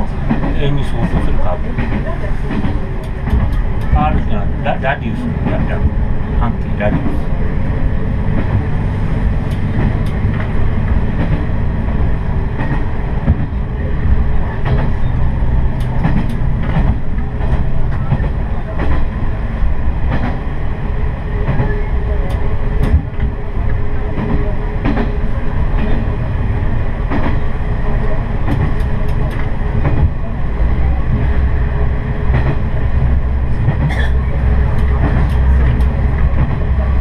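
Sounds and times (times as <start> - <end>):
diesel railcar rumble: 0.0 - 37.0.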